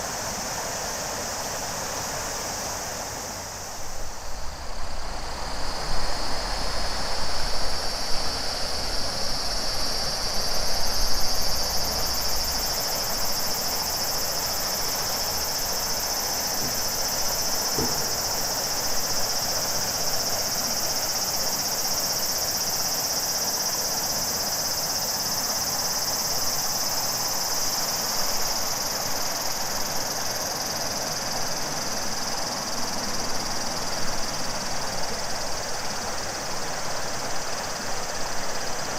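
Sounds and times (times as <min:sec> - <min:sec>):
cicadas singing: 0:00.0 - 0:38.9.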